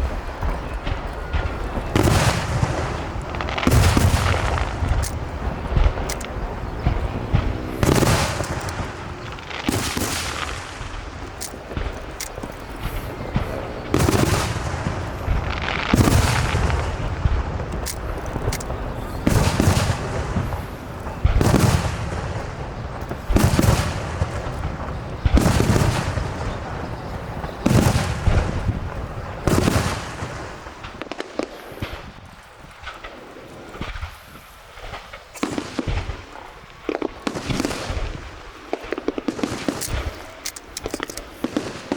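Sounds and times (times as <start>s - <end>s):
firework shells bursting: 0.0s - 41.9s
scattered firework pops: 0.0s - 41.9s.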